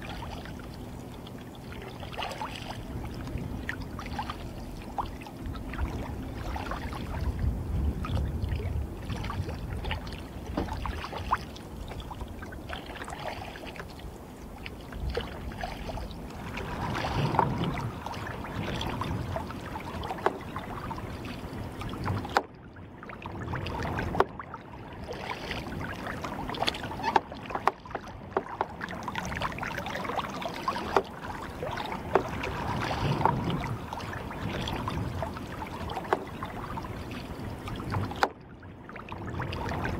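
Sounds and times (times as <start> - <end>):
paddle splashing and dripping water: 0.0 - 39.9
water lapping against hull: 0.0 - 39.9.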